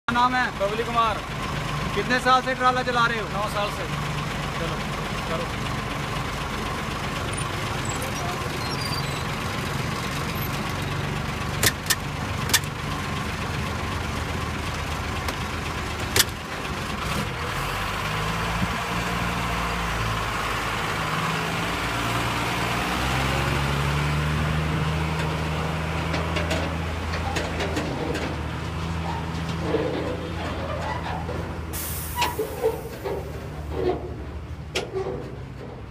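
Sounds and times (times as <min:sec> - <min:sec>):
diesel truck engine idling: 0:00.1 - 0:35.9.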